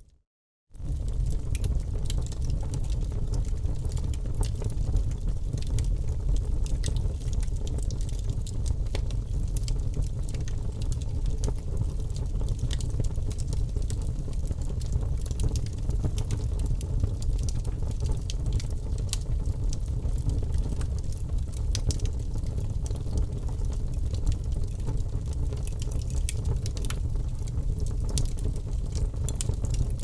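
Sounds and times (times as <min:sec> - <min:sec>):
wood fire crackling: 0:00.8 - 0:30.0.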